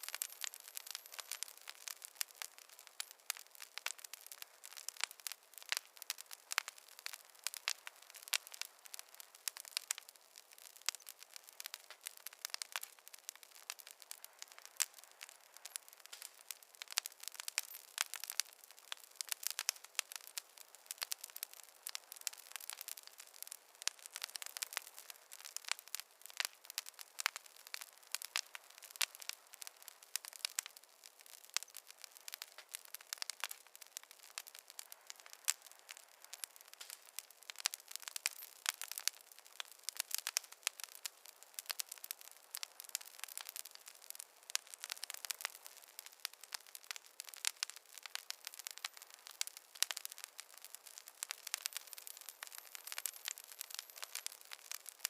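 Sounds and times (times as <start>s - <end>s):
faint fire hiss: 0.0s - 55.0s
fire crackling and popping: 0.0s - 55.0s.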